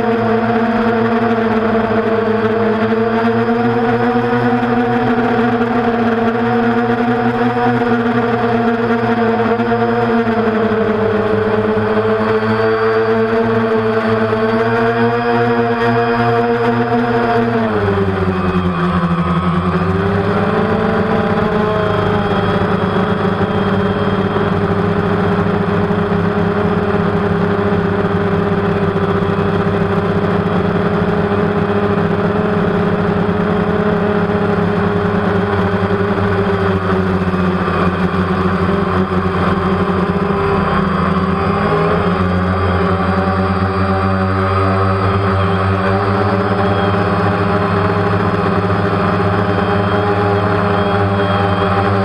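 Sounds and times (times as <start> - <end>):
drone propellers humming: 0.0 - 52.0.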